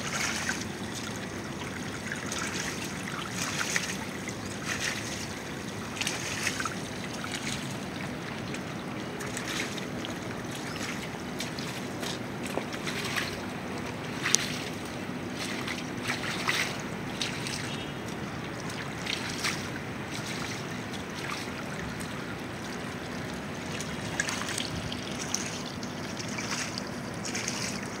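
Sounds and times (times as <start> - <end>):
small splashes and taps: 0.0 - 28.0
water trickling: 0.0 - 28.0.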